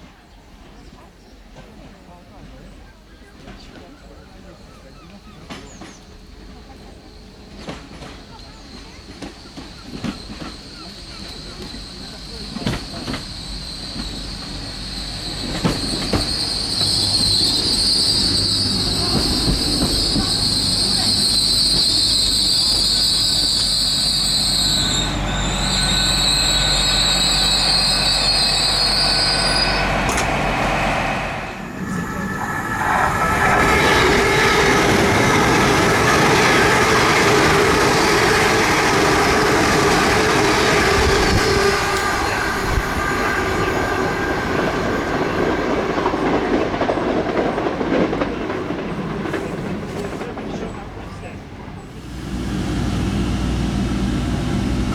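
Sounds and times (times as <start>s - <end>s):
passing train rumble: 0.1s - 54.9s
train wheel squeal: 3.5s - 48.2s.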